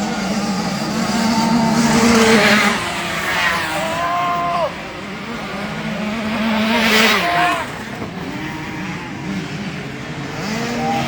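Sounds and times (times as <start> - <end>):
motocross bikes passing: 0.0 - 11.0
motorbike engine revving: 0.0 - 11.0.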